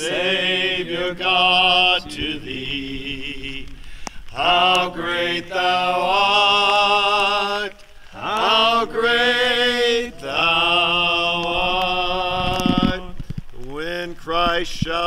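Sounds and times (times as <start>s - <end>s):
people singing a hymn: 0.0s - 15.0s.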